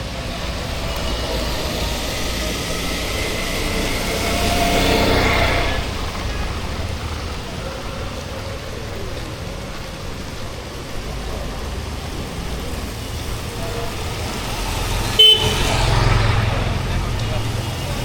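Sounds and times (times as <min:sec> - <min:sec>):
passing vehicle engine: 0:00.0 - 0:18.0.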